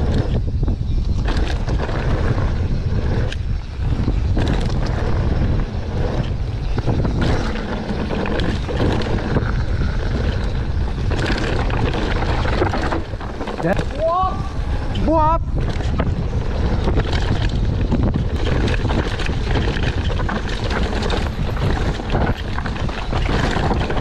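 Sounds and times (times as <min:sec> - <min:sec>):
bike knocking and clattering: 0:00.0 - 0:24.0
wind buffeting microphone: 0:00.0 - 0:24.0.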